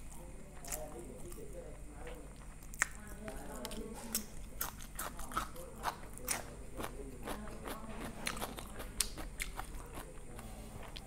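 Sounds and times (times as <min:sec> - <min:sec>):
crisp chewing crunches: 0:00.0 - 0:11.0.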